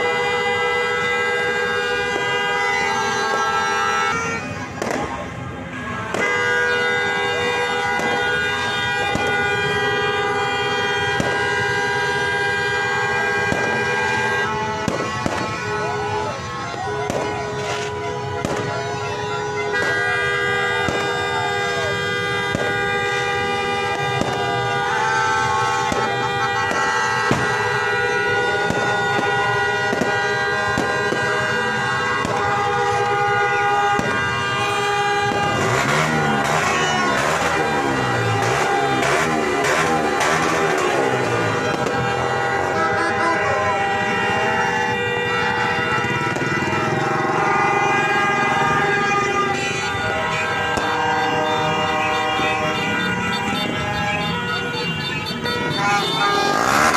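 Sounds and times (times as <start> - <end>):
fireworks banging: 0.0 - 56.9
horns blaring: 0.0 - 56.9.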